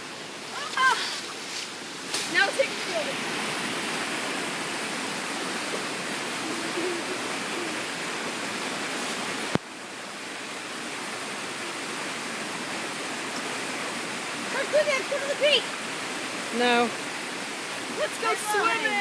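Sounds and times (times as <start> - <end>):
creek rushing in flood: 0.0 - 19.0.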